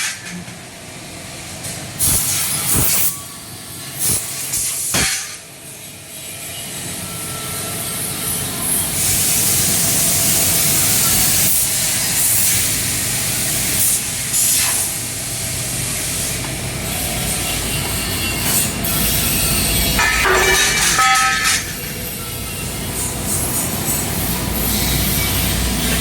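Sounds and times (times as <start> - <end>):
laser cutter gas hiss: 1.6 - 26.0.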